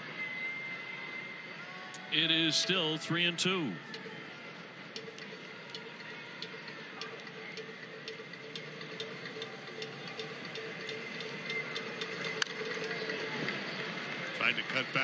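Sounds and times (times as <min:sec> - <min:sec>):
ballpark crowd: 0:00.0 - 0:15.0.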